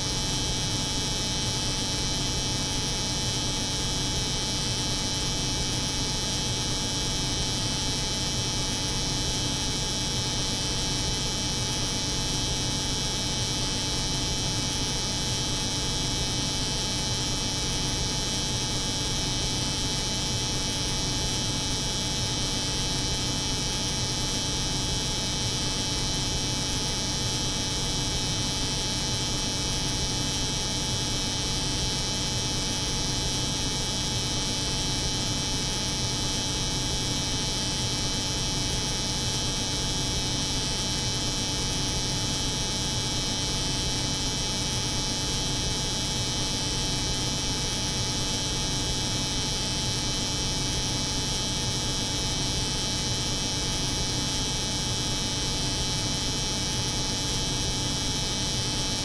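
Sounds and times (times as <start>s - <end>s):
cold room hum: 0.0s - 59.0s.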